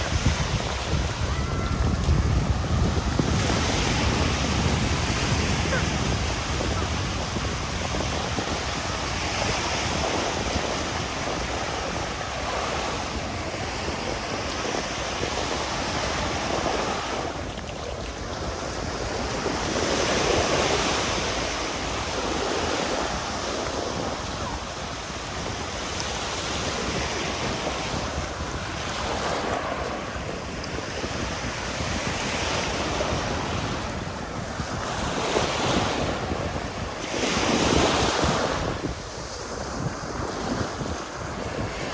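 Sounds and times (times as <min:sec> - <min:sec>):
surf breaking on beach: 0:00.0 - 0:41.9
wind rumbling on microphone: 0:00.0 - 0:41.9.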